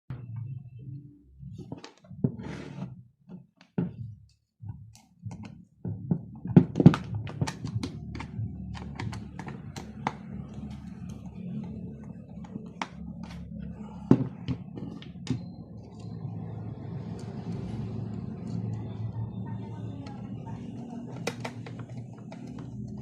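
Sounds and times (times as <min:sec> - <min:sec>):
objects being handled: 0:01.5 - 0:23.0.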